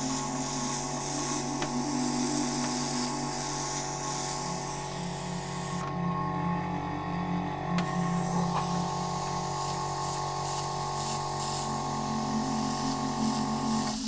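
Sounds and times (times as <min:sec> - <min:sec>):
airbrush hissing: 0:00.0 - 0:05.9, 0:07.8 - 0:14.0.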